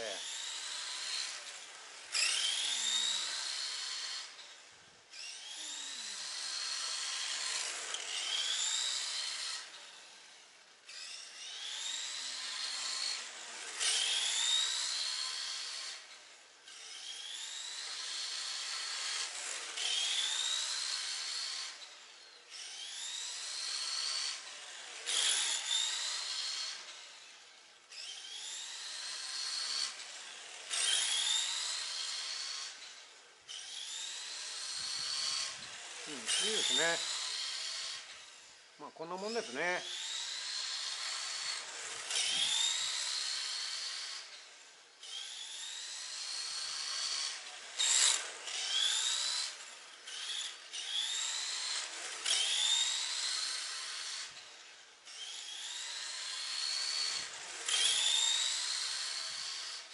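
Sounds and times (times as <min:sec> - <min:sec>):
toy car electric motor whining: 0:00.0 - 0:59.9.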